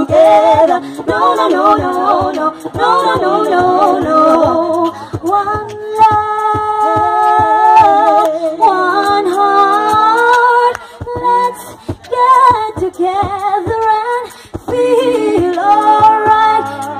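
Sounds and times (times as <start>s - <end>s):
a cappella group singing in harmony: 0.0s - 16.9s.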